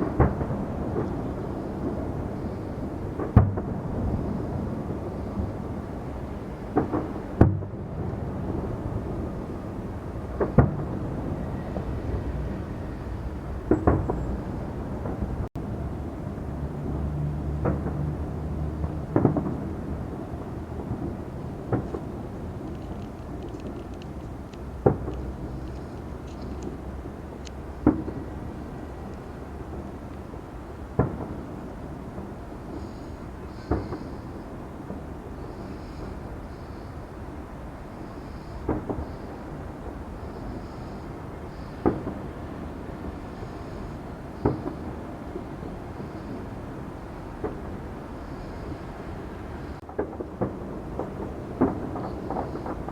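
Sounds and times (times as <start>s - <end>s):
fireworks bangs: 0.0s - 15.5s, 16.3s - 52.9s
background noise: 0.0s - 52.9s
low rumble of fireworks: 0.0s - 52.9s.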